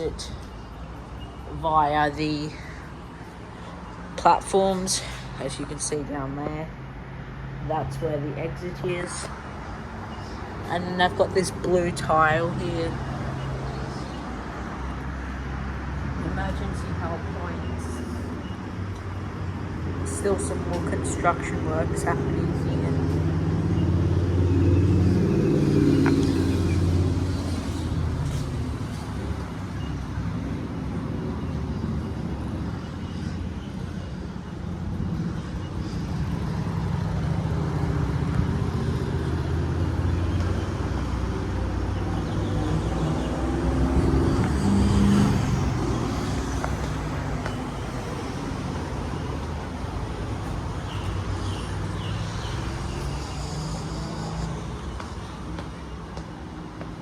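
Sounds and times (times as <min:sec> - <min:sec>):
outdoor traffic noise: 0:00.0 - 0:57.0
vehicle engines passing: 0:00.0 - 0:57.0.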